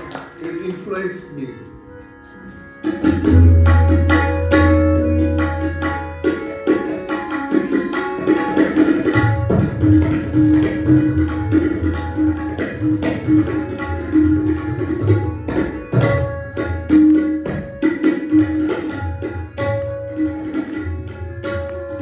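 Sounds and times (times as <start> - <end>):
tabla drumming: 0.0 - 2.0, 2.6 - 22.0
harmonium melody: 0.0 - 22.0.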